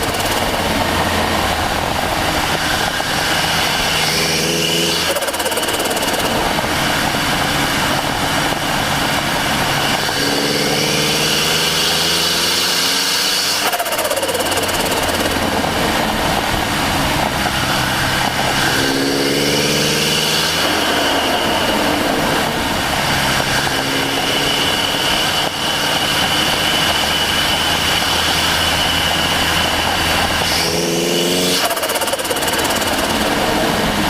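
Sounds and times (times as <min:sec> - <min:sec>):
car engine accelerating: 0:00.0 - 0:34.0
turbo whine: 0:00.0 - 0:34.0.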